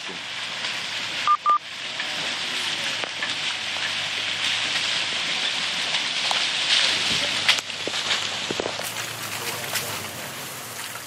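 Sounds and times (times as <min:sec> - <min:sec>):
stream water rushing and splashing: 0:00.0 - 0:11.0.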